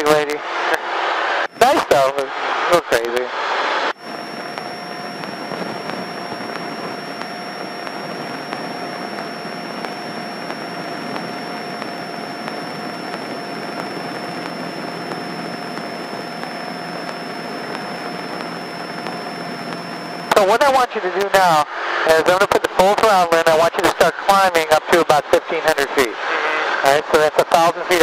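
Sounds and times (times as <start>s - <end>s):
steady whine: 0.0s - 28.0s
airplane engine droning: 0.4s - 24.7s.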